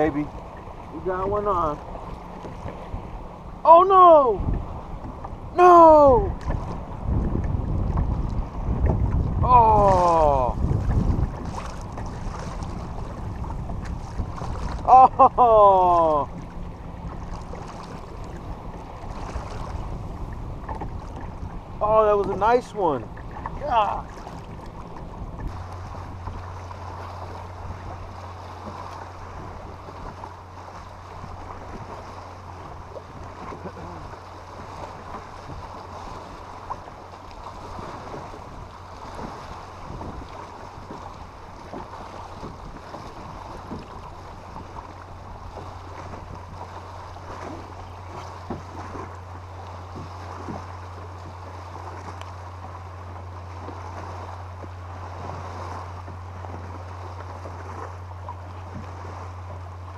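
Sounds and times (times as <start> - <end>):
wind on microphone: 0.0 - 52.7
boat motor humming: 0.0 - 59.9
water splashing against hull: 0.0 - 59.9.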